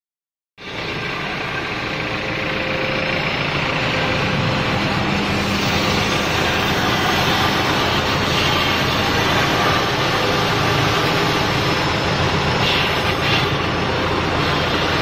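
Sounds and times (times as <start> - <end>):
cnc spindle cutting foam: 1.5 - 15.0.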